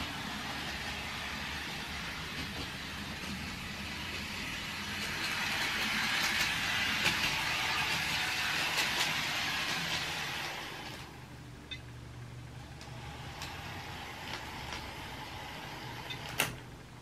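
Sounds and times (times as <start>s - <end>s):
model train motor whirring: 0.0s - 11.2s, 12.6s - 16.6s
model train wheels rolling: 0.0s - 11.3s, 12.6s - 16.7s.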